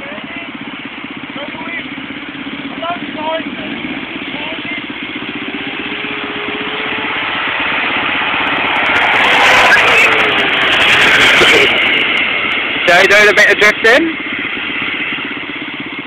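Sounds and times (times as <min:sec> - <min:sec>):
vehicle engine passing by: 0:02.8 - 0:16.0.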